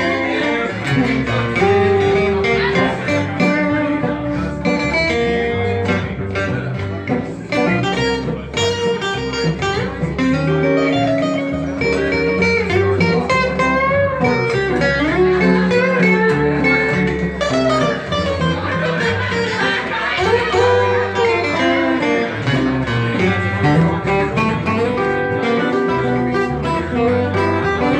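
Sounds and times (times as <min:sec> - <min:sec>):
live blues band playing: 0:00.0 - 0:27.9.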